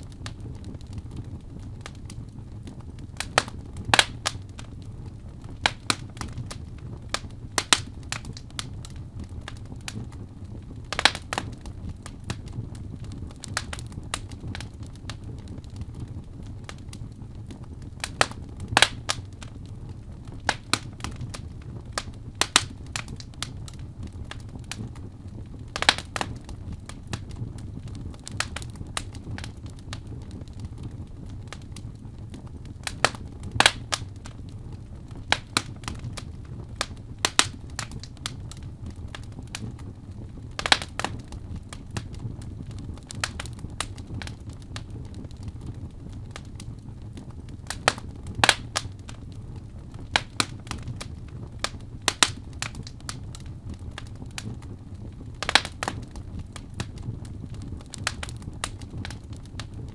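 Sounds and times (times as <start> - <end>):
fire crackling and popping: 0.0 - 59.9
low steady fire rumble: 0.0 - 59.9.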